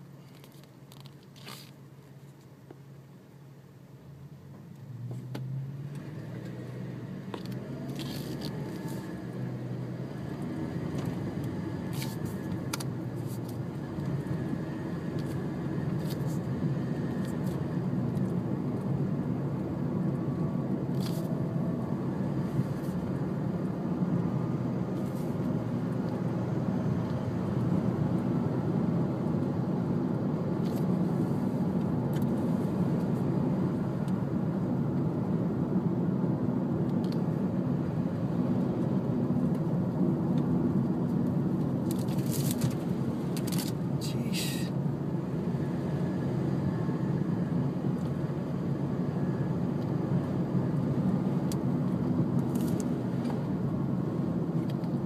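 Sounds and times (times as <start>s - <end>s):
car driving on highway: 0.0s - 55.0s.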